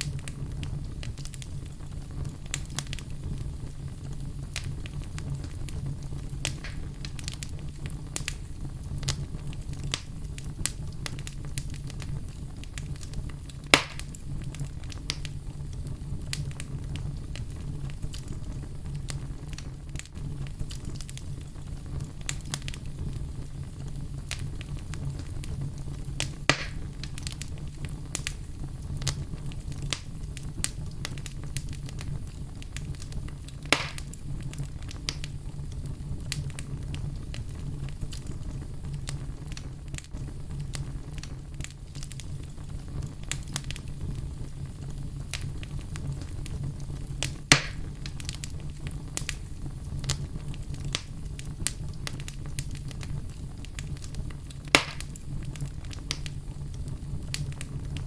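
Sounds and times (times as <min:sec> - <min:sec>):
loud fire pops: 0:00.0 - 0:58.0
low rumble of flames: 0:00.0 - 0:58.0
wood fire crackling: 0:00.0 - 0:58.0.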